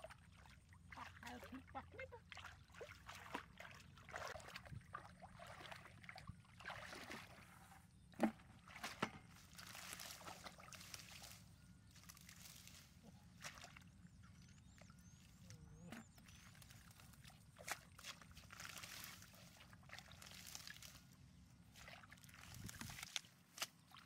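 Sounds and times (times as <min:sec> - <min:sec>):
hands splashing in muddy water: 0:02.3 - 0:13.9, 0:15.7 - 0:24.0.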